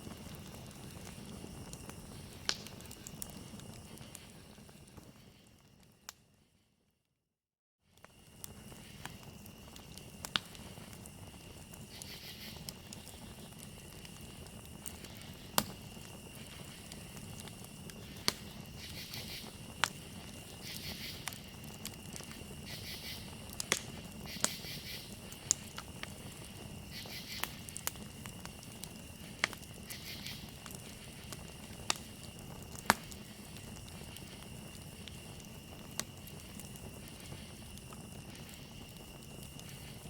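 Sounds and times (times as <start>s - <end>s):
campfire crackling and popping: 0.0s - 6.3s, 7.9s - 40.0s
crickets trilling: 0.0s - 6.4s, 7.9s - 40.0s.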